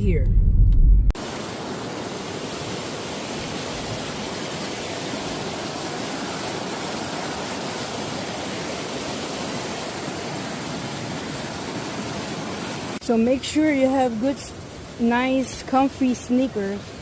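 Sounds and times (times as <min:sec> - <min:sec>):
water rushing in a creek: 0:01.2 - 0:17.0.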